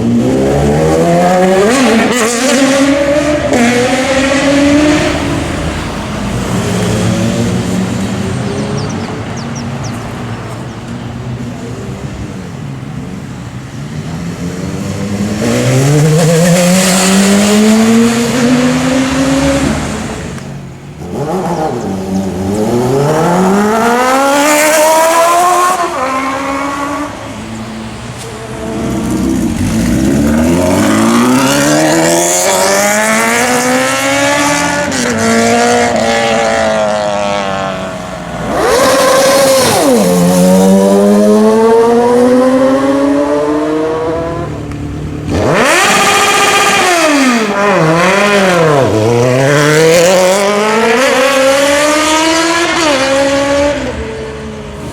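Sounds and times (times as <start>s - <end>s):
motorcycles accelerating hard: 0.0s - 10.0s, 14.2s - 20.4s, 21.0s - 27.1s, 28.3s - 54.9s.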